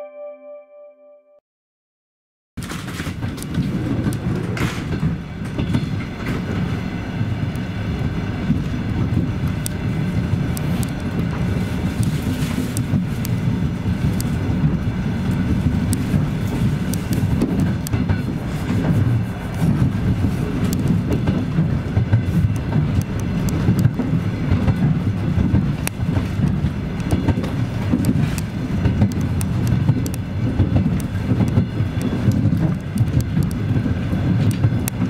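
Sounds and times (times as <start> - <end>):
rail joint clicks: 2.6 - 35.0
train wheels rumbling on track: 2.6 - 35.0.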